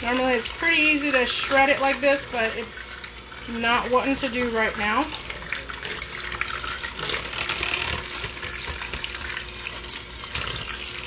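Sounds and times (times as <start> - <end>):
hand mixer motor whir: 0.0 - 11.0
wet splashy churning: 0.0 - 11.0.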